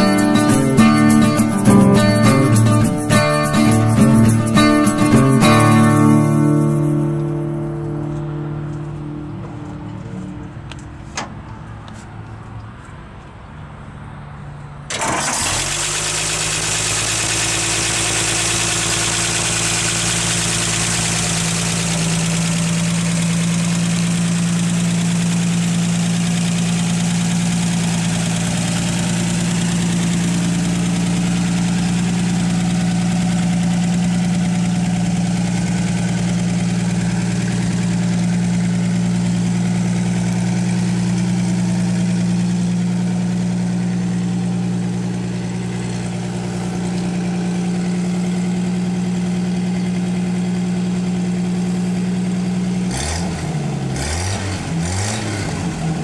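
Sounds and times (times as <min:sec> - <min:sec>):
truck engine starting and idling: 0:00.0 - 0:56.0.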